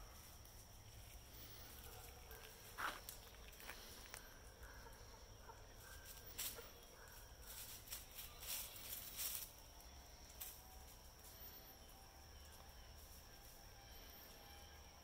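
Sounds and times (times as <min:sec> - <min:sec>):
chicks scratching and pecking: 0:00.0 - 0:13.6
faint steady high tone: 0:00.0 - 0:15.0.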